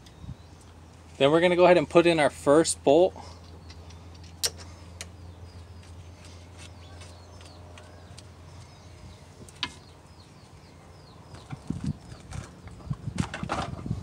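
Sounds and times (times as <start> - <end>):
small birds chirping: 0.0 - 2.2, 2.8 - 14.0
steady low hum: 0.0 - 14.0.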